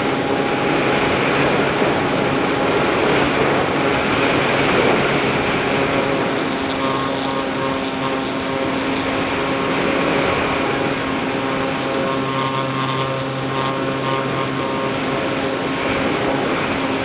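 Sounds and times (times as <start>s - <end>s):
electric motor whine: 0.0s - 17.0s
low hum: 0.0s - 17.0s.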